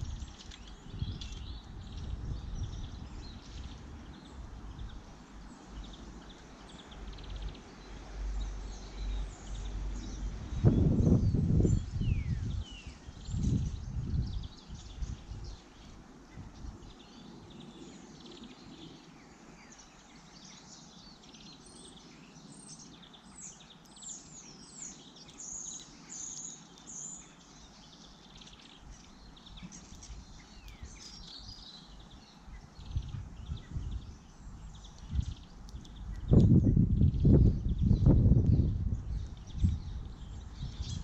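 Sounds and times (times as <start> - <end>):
birds chirping and twittering: 0.0 - 41.0.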